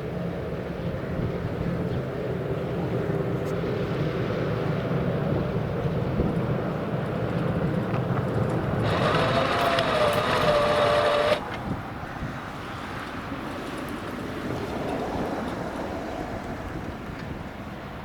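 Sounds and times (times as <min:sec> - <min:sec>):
train rumble: 0:00.8 - 0:18.0.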